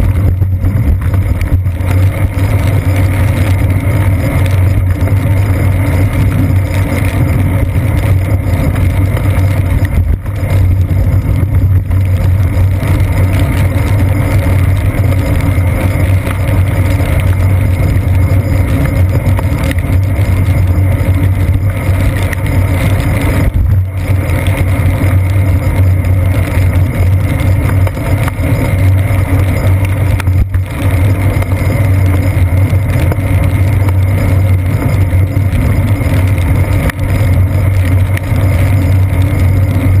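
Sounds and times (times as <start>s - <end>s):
bicycle riding rumble: 0.0s - 40.0s.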